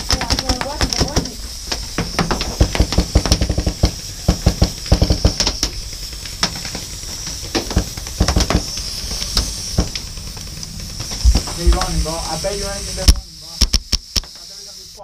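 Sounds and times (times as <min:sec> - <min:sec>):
paintballs smacking: 0:00.0 - 0:12.4, 0:13.0 - 0:14.5
paintball guns firing: 0:00.0 - 0:14.4
steady hiss: 0:00.0 - 0:15.0.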